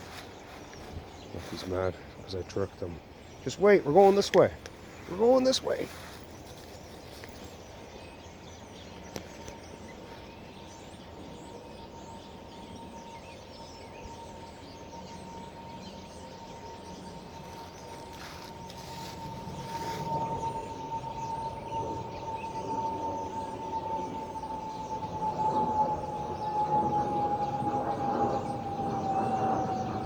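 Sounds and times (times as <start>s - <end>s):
small birds chirping and singing: 0.0s - 30.0s
steady background hum: 0.0s - 30.0s.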